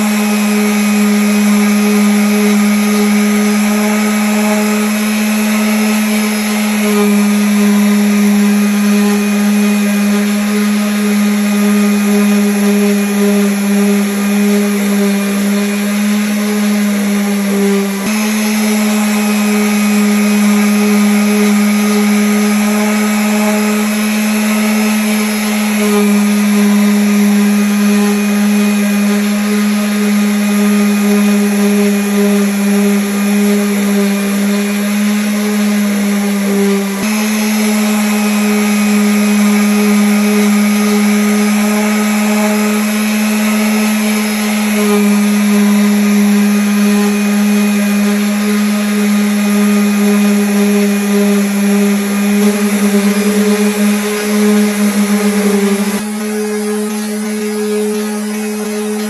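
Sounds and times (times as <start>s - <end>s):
electric sander on wood: 0.0s - 59.0s.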